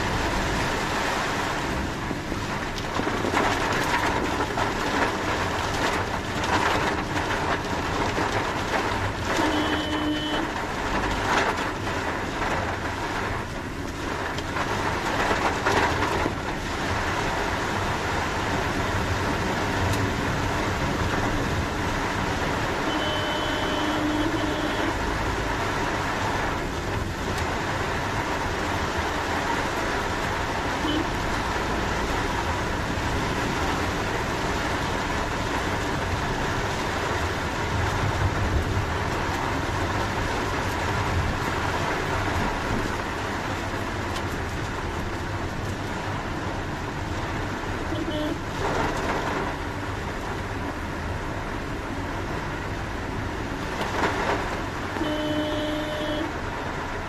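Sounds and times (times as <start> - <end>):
car engine hum: 0.0 - 57.0
rain and wet road hiss: 0.0 - 57.0.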